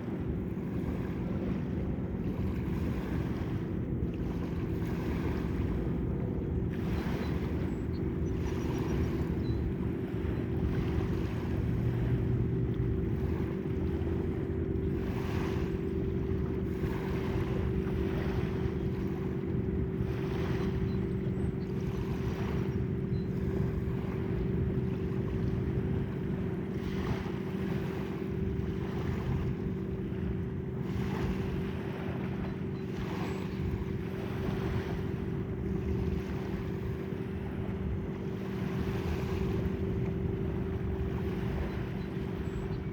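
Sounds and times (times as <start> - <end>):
boat engine drone: 0.0 - 42.9
waves washing: 0.0 - 42.9
wind buffeting microphone: 0.0 - 42.9.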